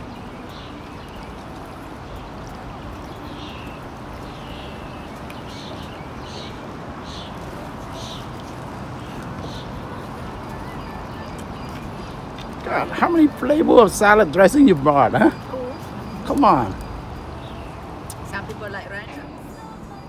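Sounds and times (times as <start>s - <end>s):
bird calling: 3.1s - 20.0s.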